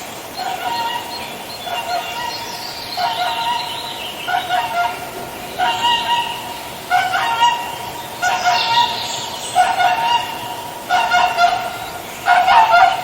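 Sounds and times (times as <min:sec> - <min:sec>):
swan calling: 0:00.3 - 0:13.0.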